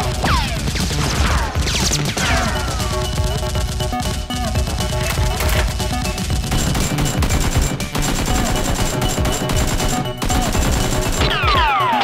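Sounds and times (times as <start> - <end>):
background music: 0.0 - 12.0
rapid gunfire: 0.0 - 12.0.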